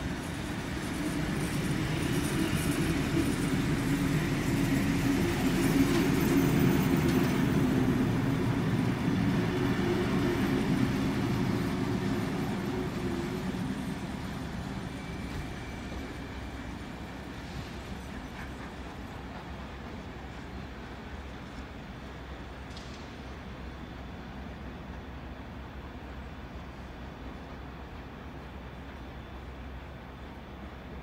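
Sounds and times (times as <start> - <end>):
train carriages rumbling on rails: 0.0 - 31.0.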